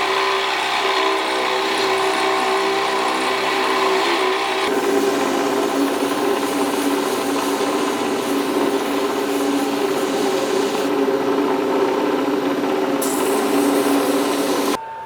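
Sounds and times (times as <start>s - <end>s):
electric grinder grinding steel: 0.0s - 14.8s.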